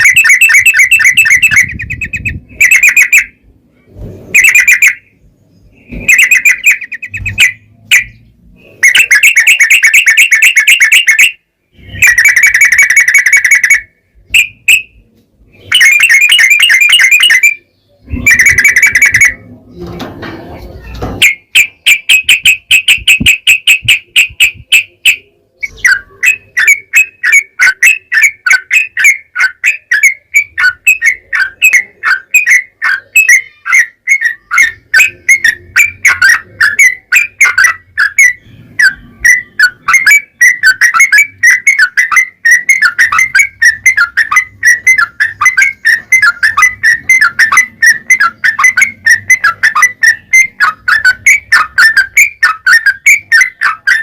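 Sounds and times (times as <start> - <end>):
bulbul singing rapid chirps: 0.0 - 3.5, 4.2 - 19.8, 20.8 - 54.0.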